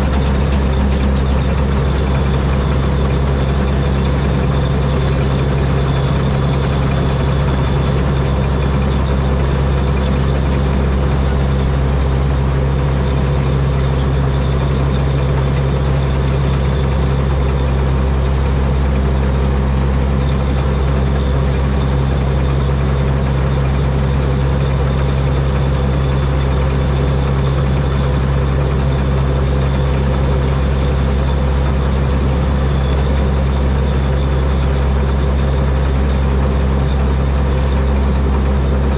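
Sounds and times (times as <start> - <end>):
combine harvester engine droning: 0.0 - 38.9.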